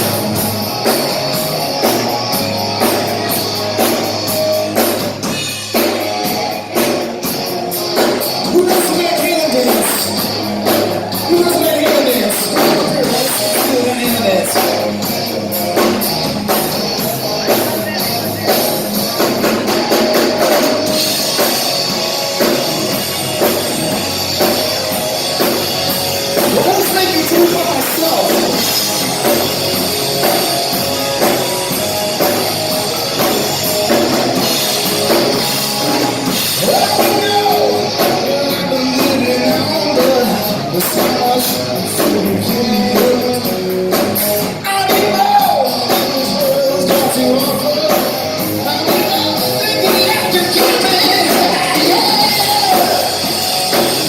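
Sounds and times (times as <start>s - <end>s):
live rock band with singer: 0.0s - 54.0s.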